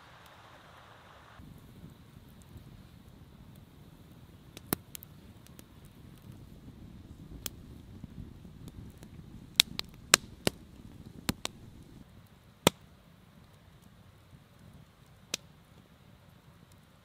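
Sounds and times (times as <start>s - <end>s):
low murmur of flame: 0.0s - 17.0s
wood fire crackling: 0.0s - 17.0s
fire pops: 1.4s - 17.0s.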